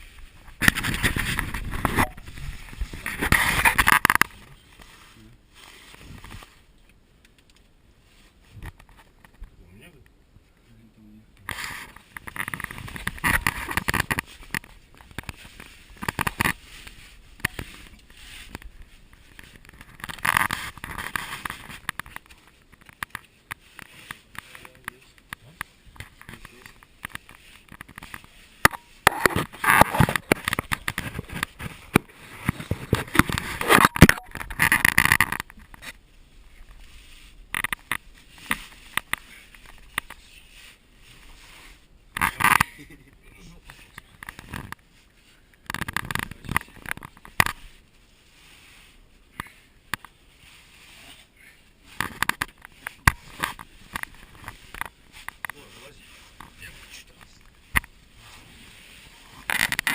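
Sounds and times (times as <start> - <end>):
scraping and rustling: 0.0 - 9.6, 11.4 - 59.9.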